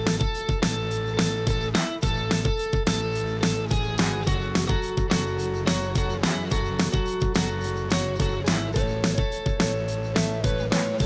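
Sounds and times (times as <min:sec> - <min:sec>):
upbeat indie music: 0:00.0 - 0:11.0.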